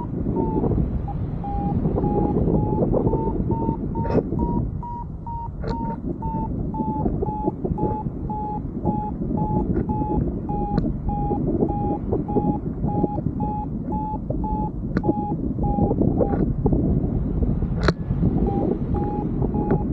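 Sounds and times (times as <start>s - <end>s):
variometer short beeps: 0.0s - 16.4s, 18.4s - 19.9s
wind rushing over microphone: 0.0s - 19.9s.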